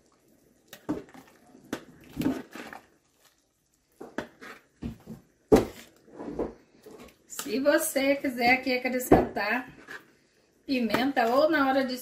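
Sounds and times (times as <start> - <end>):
spoon stirring in a pot: 0.0 - 11.8.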